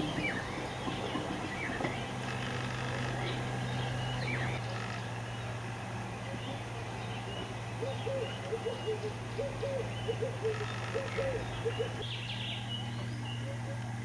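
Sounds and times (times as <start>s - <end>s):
hornbill calling low notes: 0.0s - 14.0s
small birds chirping: 0.0s - 14.0s.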